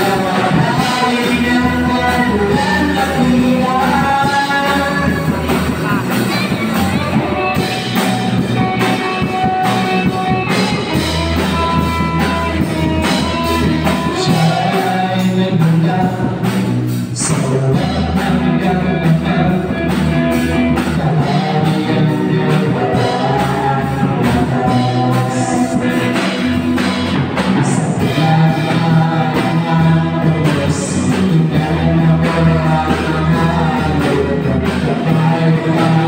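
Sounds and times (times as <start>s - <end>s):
drum kit: 0.0s - 36.0s
electric guitars: 0.0s - 36.0s
person singing: 0.0s - 36.0s.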